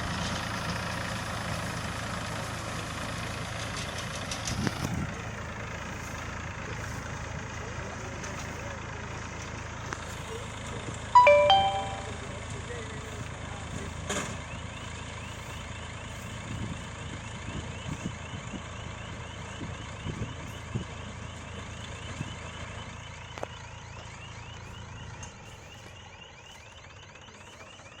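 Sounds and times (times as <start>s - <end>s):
tractor engine hum: 0.0s - 28.0s.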